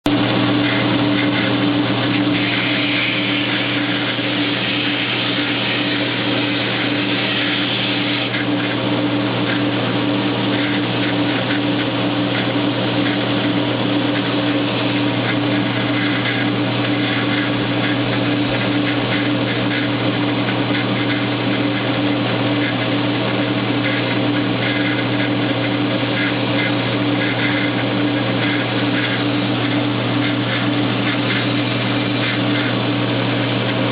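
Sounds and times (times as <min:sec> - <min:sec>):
belt grinder grinding steel: 0:00.3 - 0:33.9.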